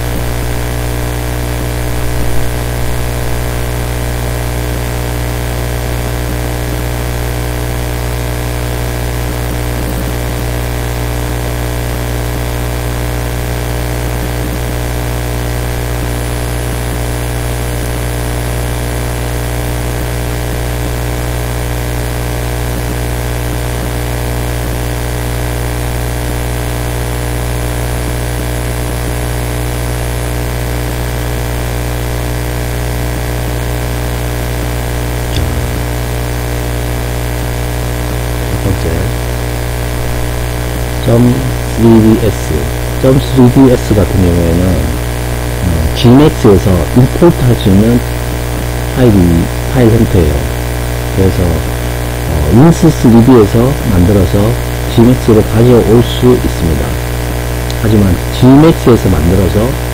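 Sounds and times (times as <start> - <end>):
electrical hum with hiss: 0.0 - 59.9.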